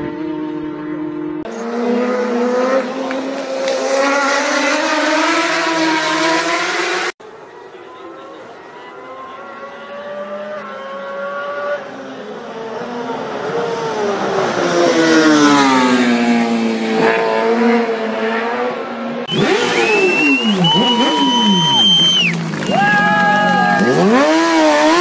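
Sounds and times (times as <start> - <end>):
racing motorcycle engine at high revs: 0.0 - 7.2, 9.5 - 21.8, 23.8 - 25.0.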